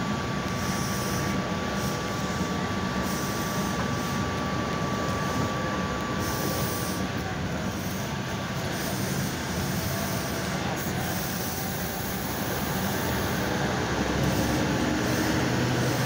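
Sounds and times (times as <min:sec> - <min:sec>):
electric railcar humming: 0:00.0 - 0:16.0.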